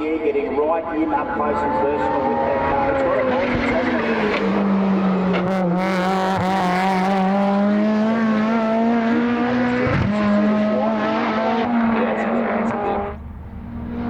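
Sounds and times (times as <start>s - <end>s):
race car engine accelerating: 0.2s - 14.0s.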